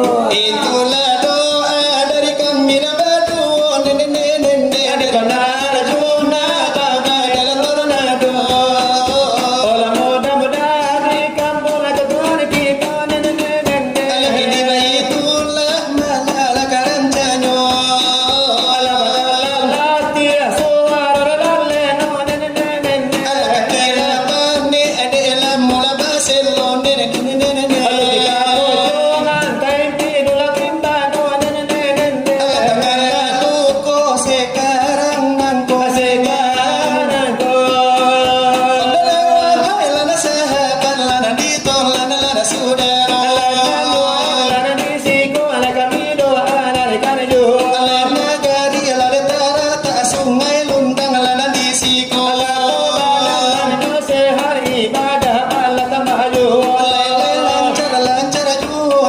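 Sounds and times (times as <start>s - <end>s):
person singing long verses: 0.0s - 59.0s.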